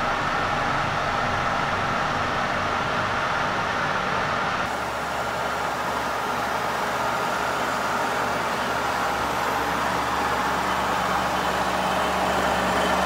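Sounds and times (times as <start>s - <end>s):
milling machine hum: 0.0s - 13.0s.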